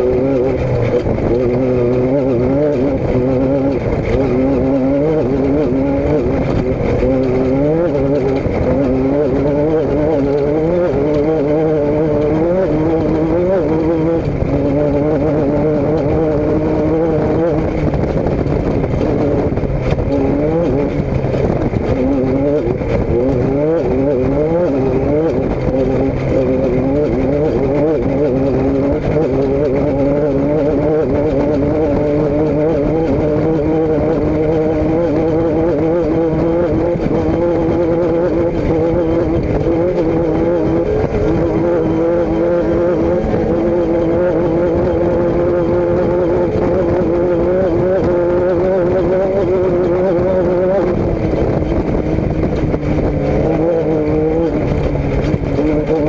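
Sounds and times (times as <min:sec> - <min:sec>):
vehicle engine accelerating: 0:00.0 - 0:56.0.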